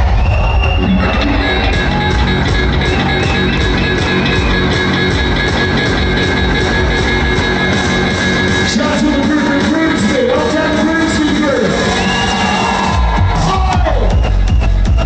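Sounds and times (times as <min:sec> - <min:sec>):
loud fast dance music: 0:00.0 - 0:15.0.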